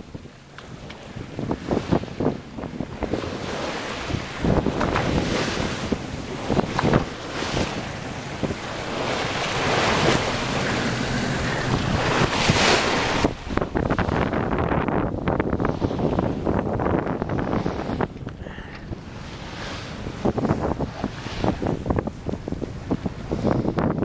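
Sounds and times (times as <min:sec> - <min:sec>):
bow wave splashing along hull: 0:00.0 - 0:24.0
wind buffeting microphone: 0:00.0 - 0:24.0.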